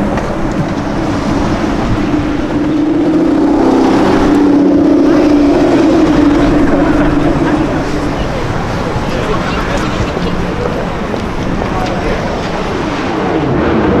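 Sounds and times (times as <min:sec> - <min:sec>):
car engine running: 0:00.0 - 0:12.8
street noise: 0:00.0 - 0:14.0.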